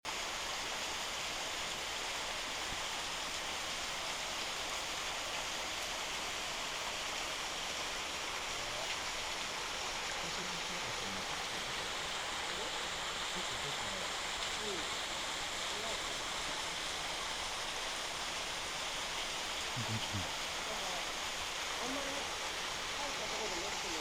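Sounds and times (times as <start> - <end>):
waterfall rushing: 0.1 - 24.0.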